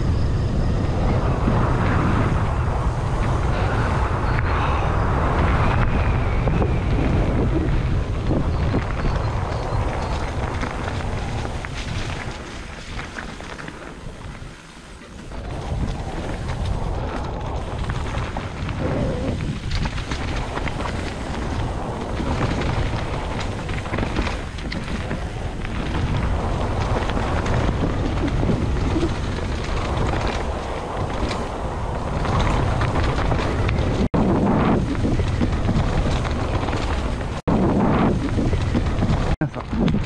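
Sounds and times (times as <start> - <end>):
low rumble: 0.0 - 40.0
wind buffeting microphone: 0.0 - 40.0.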